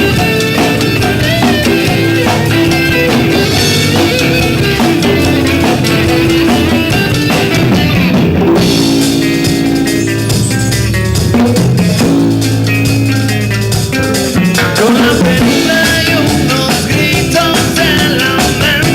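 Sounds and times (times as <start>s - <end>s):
bass guitar: 0.0s - 18.9s
drum kit: 0.0s - 18.9s
guitar: 0.0s - 18.9s.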